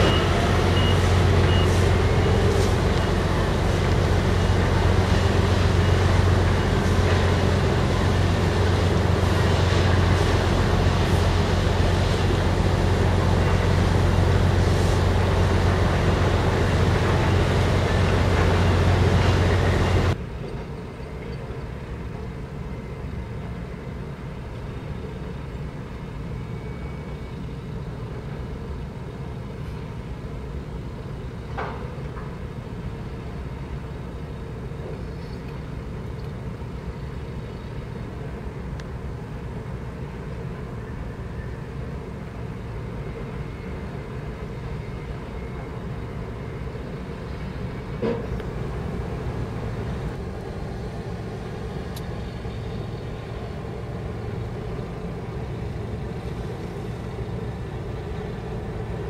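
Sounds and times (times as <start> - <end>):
machinery and engines rumbling: 0.0 - 59.0.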